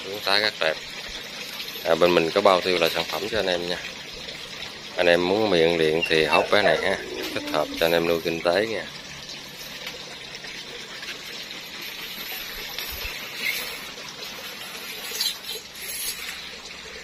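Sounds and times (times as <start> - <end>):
running water trickling: 0.0 - 17.0.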